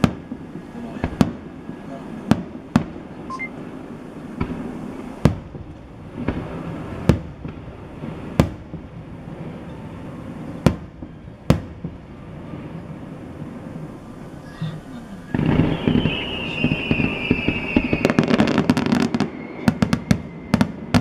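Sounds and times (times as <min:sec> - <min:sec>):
firework shells booming: 0:00.0 - 0:21.0
steady background noise: 0:00.0 - 0:21.0.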